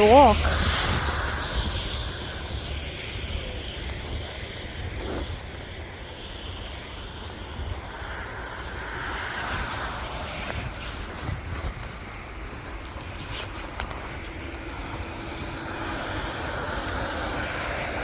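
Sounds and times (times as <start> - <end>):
passing vehicle: 0.0 - 18.0
traffic hum: 0.0 - 18.0
wind buffeting microphone: 0.0 - 18.0
wind rumble and hiss: 0.0 - 18.0.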